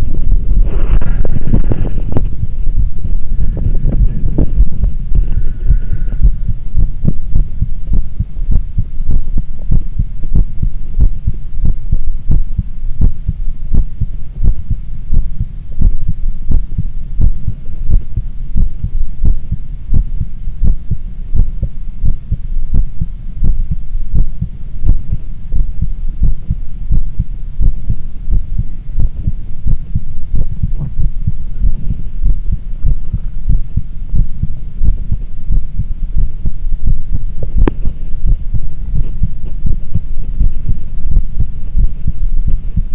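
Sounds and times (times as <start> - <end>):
heartbeat thumping: 0.0 - 42.9
low hum: 0.0 - 42.9.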